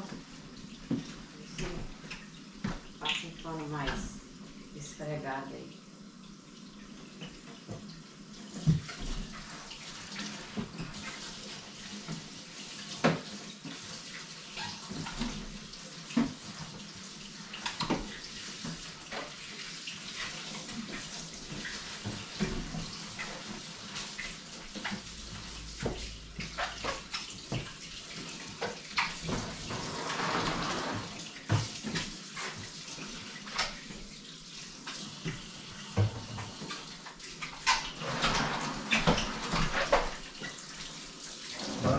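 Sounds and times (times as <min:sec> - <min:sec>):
faucet water running into sink: 0:00.0 - 0:41.9.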